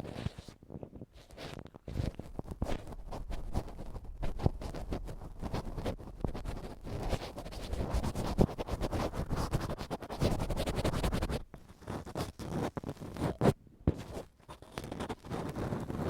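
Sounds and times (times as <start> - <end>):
ear pick scraping microphone: 0.0 - 16.0.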